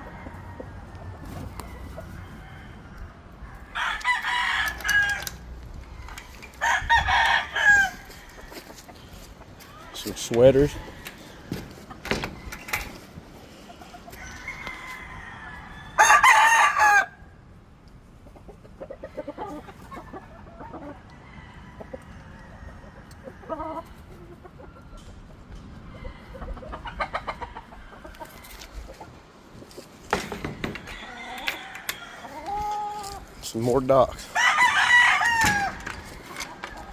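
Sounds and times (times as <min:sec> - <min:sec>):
chickens clucking: 0:00.0 - 0:03.7, 0:07.2 - 0:15.8, 0:17.8 - 0:36.9
roosters crowing: 0:00.0 - 0:17.5, 0:19.0 - 0:29.1, 0:29.7 - 0:36.9.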